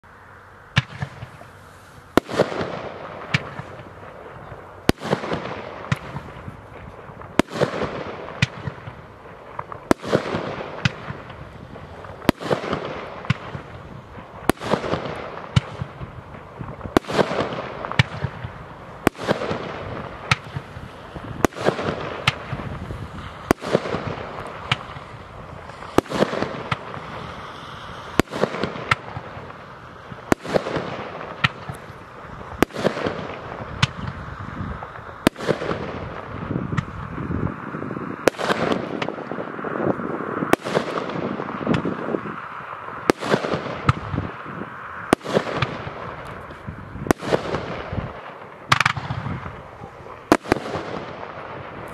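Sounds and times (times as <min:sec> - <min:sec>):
hissing crackling firework tail: 0:00.0 - 0:51.9
firework reports: 0:00.6 - 0:51.9
small firework pops: 0:00.8 - 0:01.6, 0:02.2 - 0:20.8, 0:21.4 - 0:37.2, 0:38.3 - 0:42.2, 0:43.0 - 0:44.3, 0:45.1 - 0:51.9.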